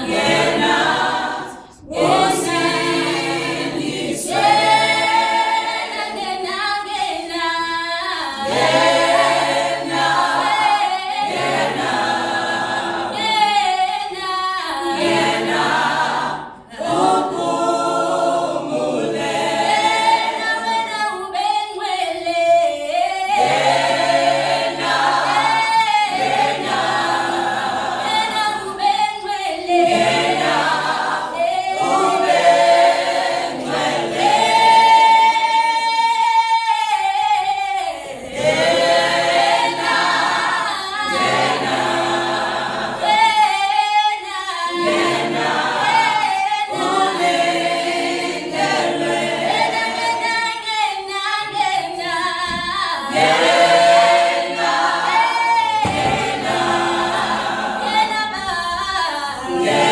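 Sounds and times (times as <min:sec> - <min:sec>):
a cappella group singing: 0:00.0 - 0:59.9.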